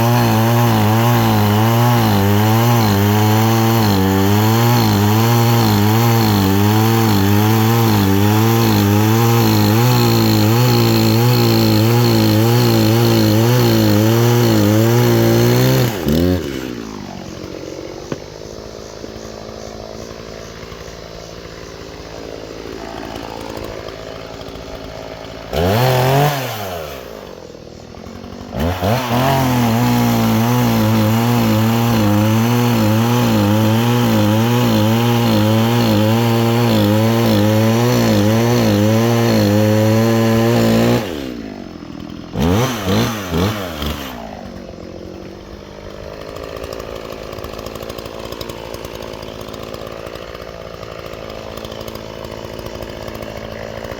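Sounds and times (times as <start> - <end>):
chainsaw cutting wood: 0.0 - 53.9
chainsaw idling and revving: 0.0 - 53.9.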